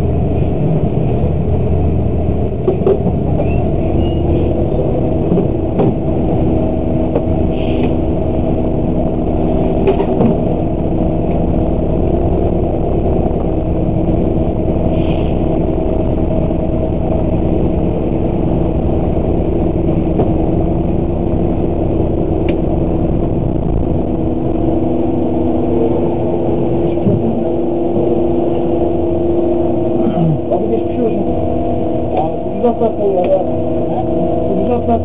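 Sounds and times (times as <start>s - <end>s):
bus engine idling: 0.0s - 35.0s.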